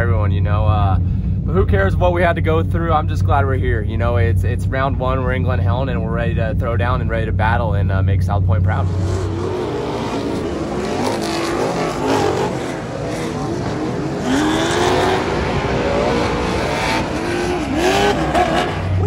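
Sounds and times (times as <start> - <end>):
race truck engine revving: 0.0 - 19.0.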